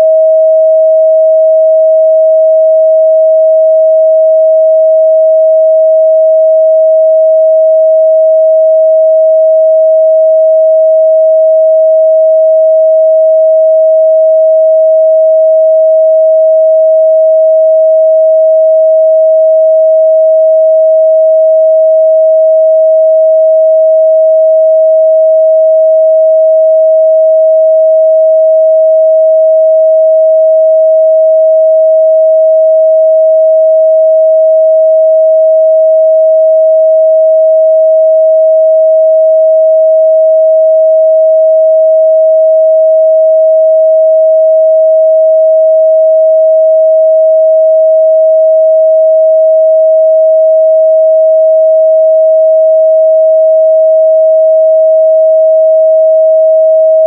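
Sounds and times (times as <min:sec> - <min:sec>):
sine-wave test tone: 0:00.0 - 0:57.0.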